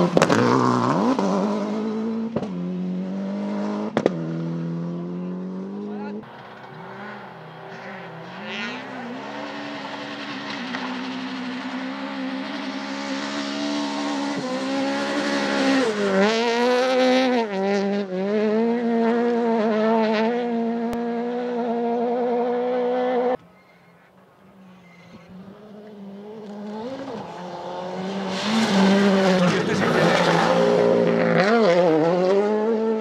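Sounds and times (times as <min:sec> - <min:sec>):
rally car engine revving: 0:00.0 - 0:23.4, 0:24.8 - 0:33.0.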